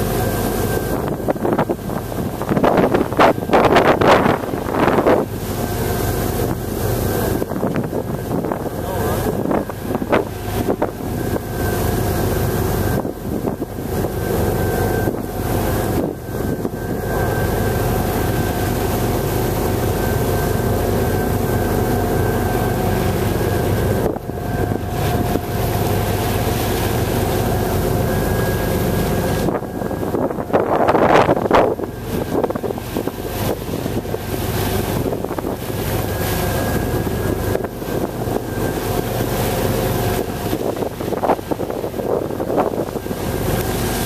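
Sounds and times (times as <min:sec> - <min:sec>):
boat engines droning: 0:00.0 - 0:44.0
wind buffeting microphone: 0:00.0 - 0:44.0.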